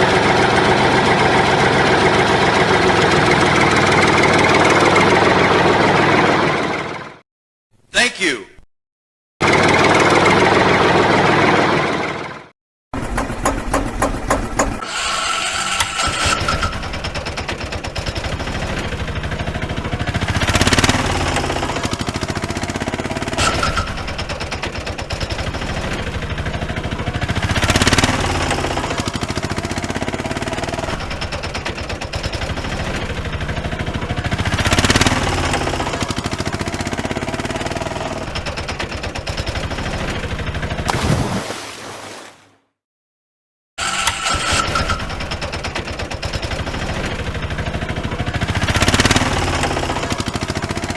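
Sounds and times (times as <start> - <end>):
engine running with knocking pulse: 0.0 - 7.2, 9.4 - 40.9, 43.8 - 50.9.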